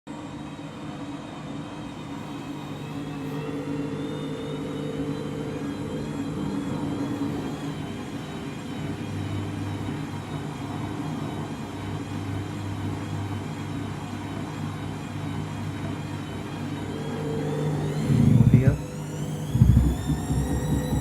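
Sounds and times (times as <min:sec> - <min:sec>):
washing machine spinning: 0:00.1 - 0:21.0.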